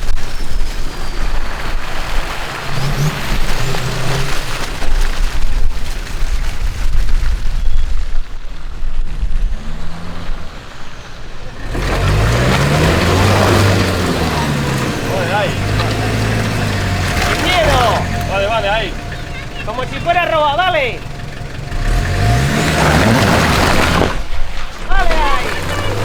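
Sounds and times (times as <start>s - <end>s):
off-road vehicle engine running: 1.4s - 6.8s, 8.6s - 26.0s.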